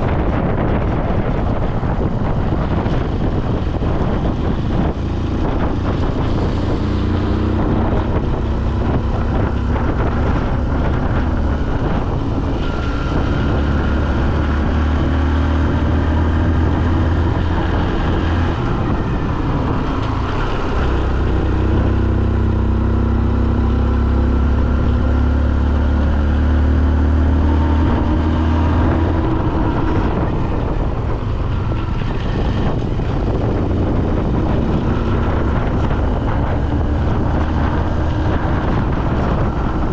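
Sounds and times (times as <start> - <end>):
vehicle engine running: 0.0 - 39.9
wind noise on microphone: 0.0 - 39.9.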